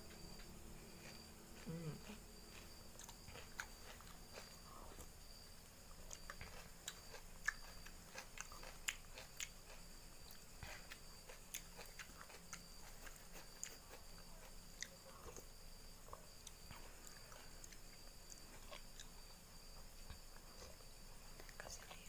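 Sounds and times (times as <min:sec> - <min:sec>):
person chewing and biting: 0:00.0 - 0:19.2.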